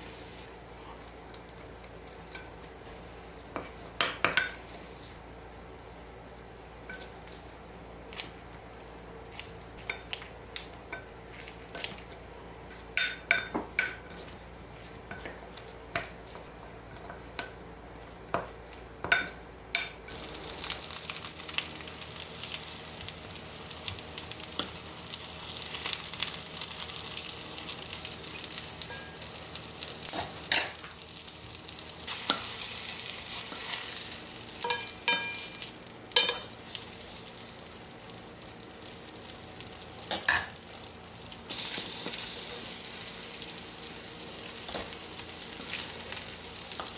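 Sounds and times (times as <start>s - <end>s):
food sizzling in oil: 0.0s - 5.2s, 12.7s - 46.9s.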